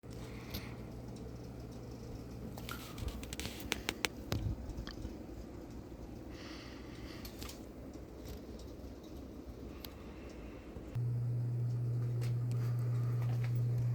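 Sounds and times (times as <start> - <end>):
ceiling fan motor hum: 0.0 - 13.9.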